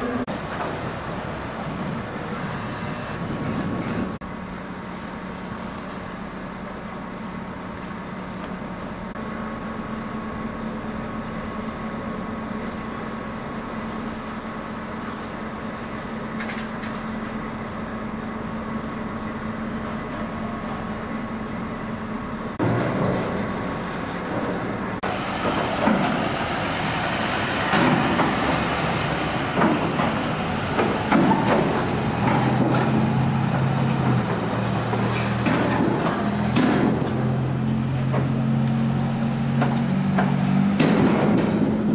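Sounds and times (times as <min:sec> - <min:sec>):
engine drone: 0:00.0 - 0:41.9.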